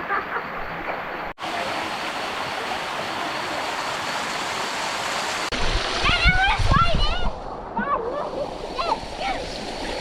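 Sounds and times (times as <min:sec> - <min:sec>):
river water over rocks: 0:00.4 - 0:10.0.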